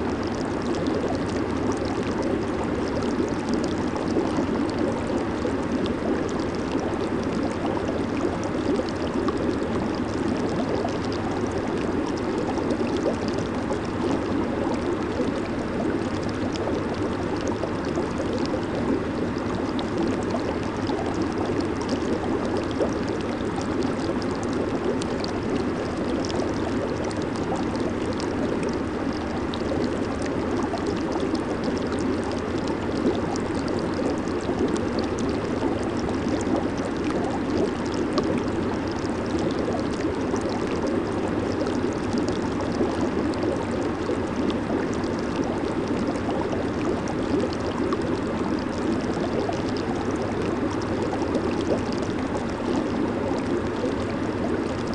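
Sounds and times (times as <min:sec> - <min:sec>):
fine fizzing crackle: 0:00.0 - 0:54.9
hot tub jets churning water: 0:00.0 - 0:54.9.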